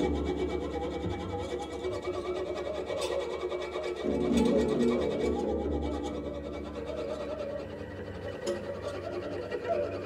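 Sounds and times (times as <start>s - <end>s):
bowed cello: 0.0s - 10.0s
plucked koto strings: 0.0s - 10.0s.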